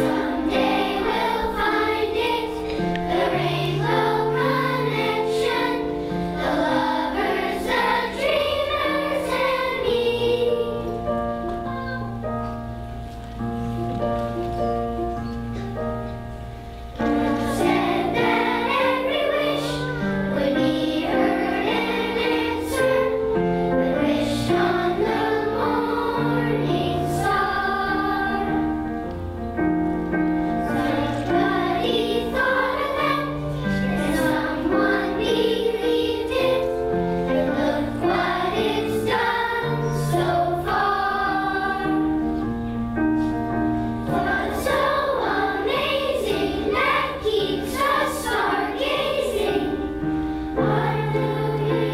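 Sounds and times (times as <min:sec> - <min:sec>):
children's choir singing: 0:00.0 - 0:12.8, 0:14.2 - 0:51.9.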